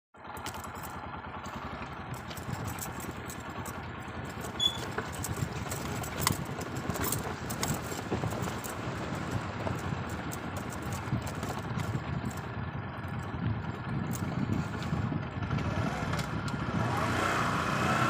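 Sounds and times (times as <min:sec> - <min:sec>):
sharp clicks and rattles: 0:00.2 - 0:16.6
vehicle rumble and hiss: 0:00.2 - 0:18.0.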